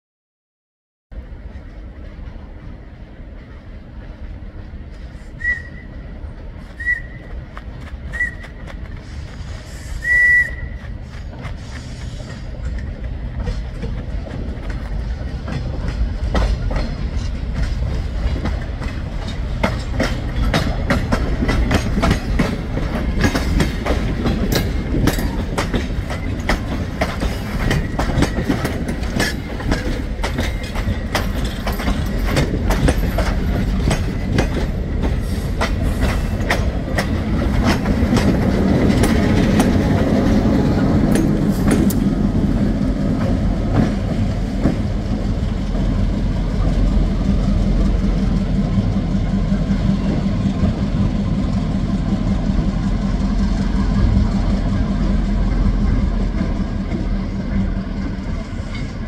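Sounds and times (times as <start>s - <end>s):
diesel locomotive rumble: 1.1s - 59.0s
train wheels clickety-clack: 1.2s - 59.0s.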